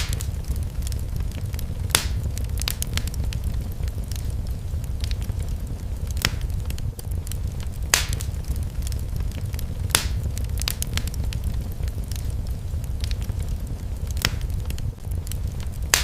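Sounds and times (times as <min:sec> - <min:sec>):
fire crackling: 0:00.0 - 0:16.0
loud fire snaps: 0:00.0 - 0:16.0
low rumble of flame: 0:00.0 - 0:16.0.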